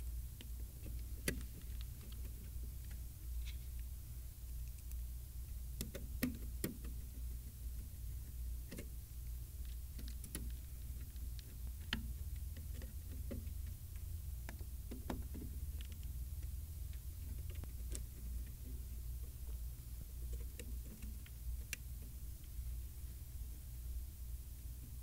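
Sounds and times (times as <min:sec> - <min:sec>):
steady low hum: 0:00.0 - 0:25.0
light clicks and taps on metal: 0:00.4 - 0:03.9, 0:04.6 - 0:09.0, 0:09.6 - 0:22.9.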